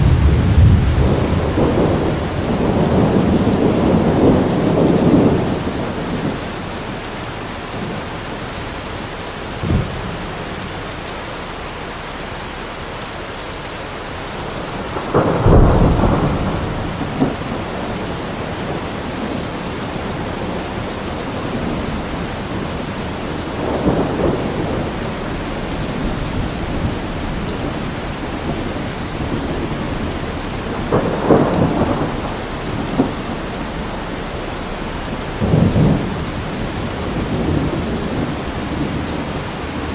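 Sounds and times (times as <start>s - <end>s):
thunder rumbling: 0.0s - 11.1s, 13.9s - 39.9s
steady rain falling: 0.0s - 39.9s.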